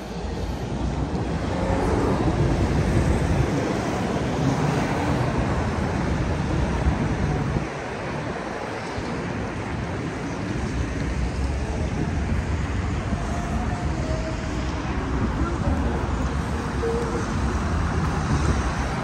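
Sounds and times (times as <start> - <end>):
road traffic rushing: 0.0 - 19.0.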